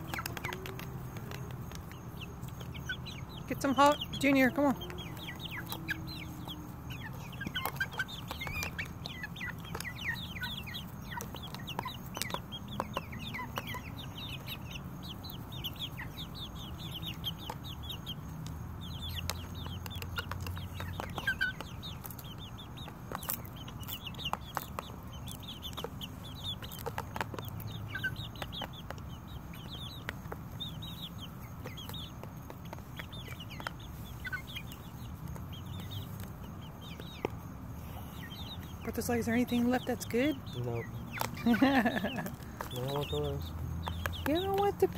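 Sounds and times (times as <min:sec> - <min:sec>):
beaks pecking at plastic bowl: 0:00.0 - 0:37.5, 0:38.3 - 0:44.9
chicks peeping: 0:00.0 - 0:44.9.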